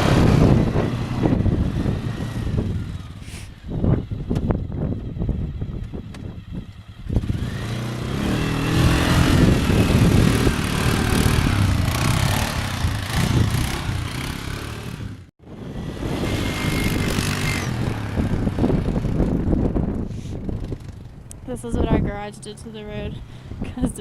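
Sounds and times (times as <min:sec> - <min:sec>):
vehicle engine revving: 0:00.0 - 0:21.4.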